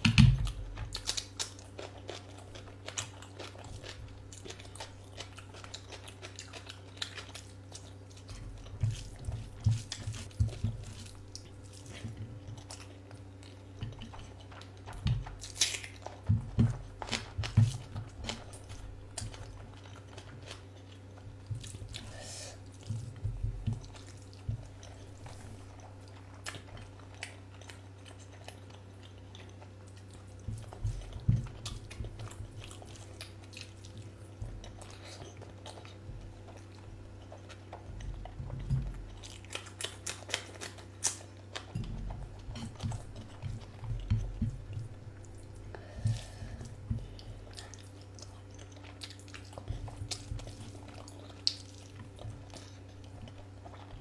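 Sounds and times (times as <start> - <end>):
person chewing: 0.4 - 54.0.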